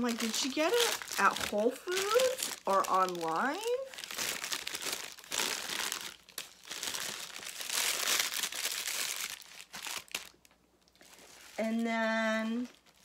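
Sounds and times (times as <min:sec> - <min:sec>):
gift wrapping paper crinkling: 0:00.0 - 0:13.0.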